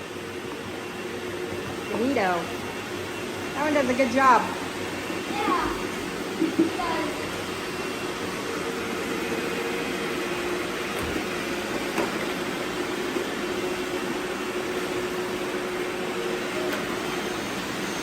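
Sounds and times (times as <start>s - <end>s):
robot vacuum humming: 0.0s - 18.0s.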